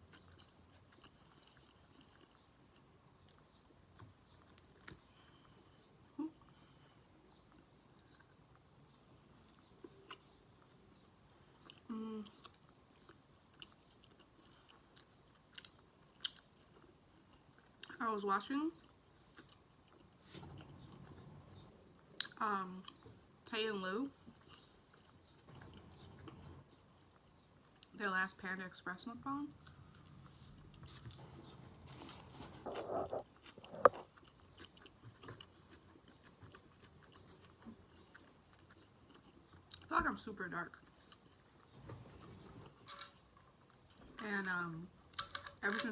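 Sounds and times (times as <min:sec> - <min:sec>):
person chewing food: 0:00.0 - 0:18.0, 0:18.8 - 0:23.4, 0:24.2 - 0:27.9, 0:29.5 - 0:39.9, 0:40.8 - 0:44.2.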